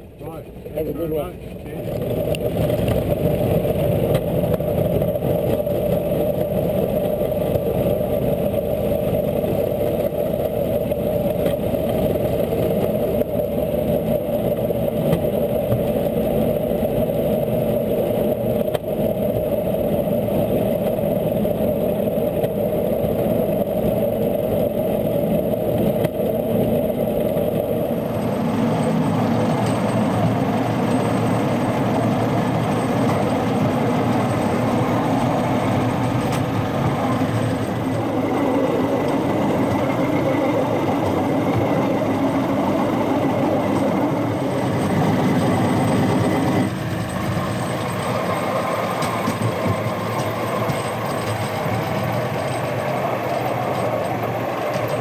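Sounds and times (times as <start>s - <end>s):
rail cart engine and wheels: 0.0s - 55.0s.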